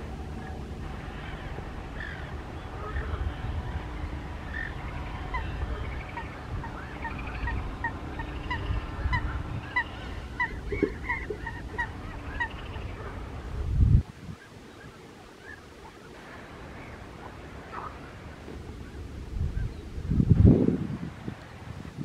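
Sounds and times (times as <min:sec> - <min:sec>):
waterbird calling: 0:00.0 - 0:20.1
wind rumble on microphone: 0:00.0 - 0:22.0.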